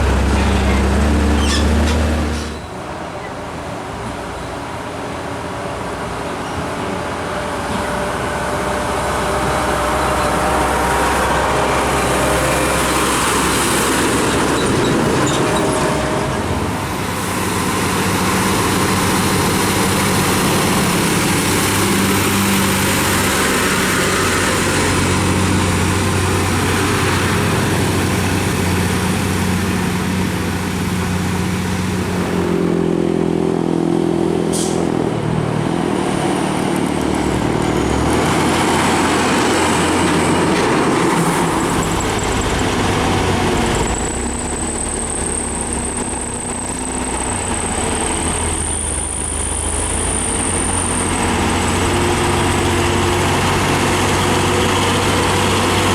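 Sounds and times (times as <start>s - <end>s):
diesel truck engines: 0.0s - 55.9s.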